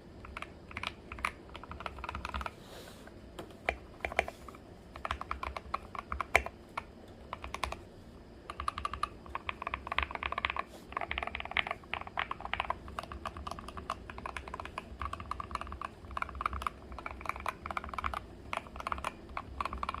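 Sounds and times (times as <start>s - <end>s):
mechanical keyboard typing: 0.0s - 2.6s, 3.6s - 7.8s, 8.5s - 20.0s.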